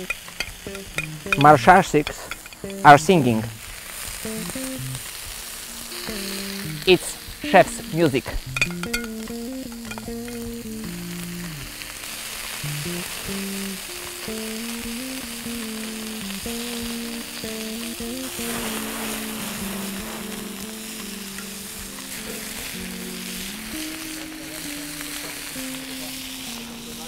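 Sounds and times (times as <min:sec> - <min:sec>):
background music: 0:00.0 - 0:27.0
skewers sizzling on grill: 0:00.0 - 0:27.0.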